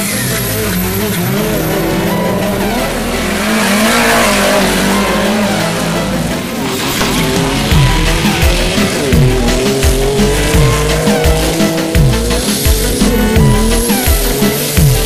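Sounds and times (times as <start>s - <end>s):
engines revving hard: 0.0s - 15.0s
tyres spinning on loose dirt: 0.0s - 15.0s.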